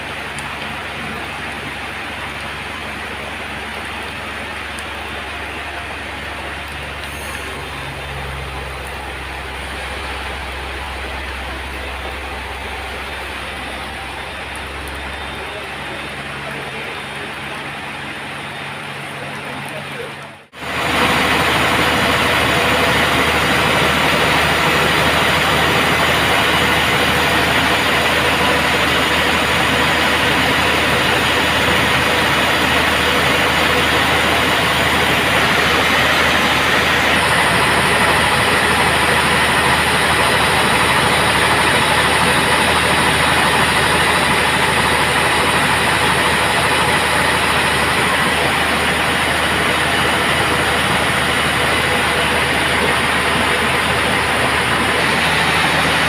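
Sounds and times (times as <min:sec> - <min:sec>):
band sawmill running: 0:00.0 - 0:56.0.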